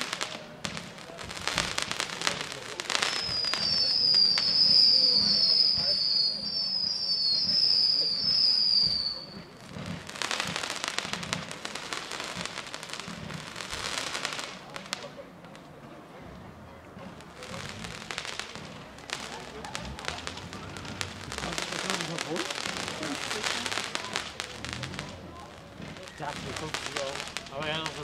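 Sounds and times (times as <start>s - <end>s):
high firework whistles: 0.0s - 15.2s, 17.2s - 28.0s
fireworks crackling: 0.0s - 28.0s.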